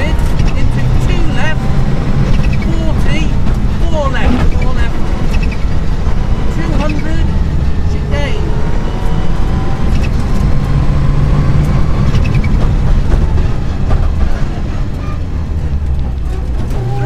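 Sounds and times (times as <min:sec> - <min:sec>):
car engine revving through gears: 0:00.0 - 0:17.0
road and chassis noise: 0:00.0 - 0:17.0.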